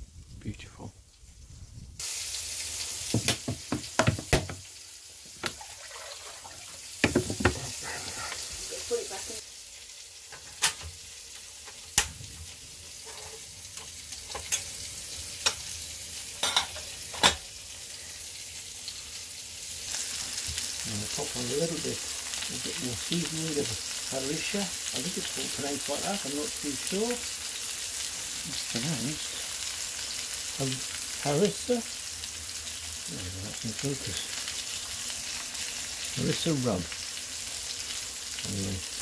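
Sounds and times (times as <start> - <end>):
pork sizzling in a pan: 1.0 - 39.0.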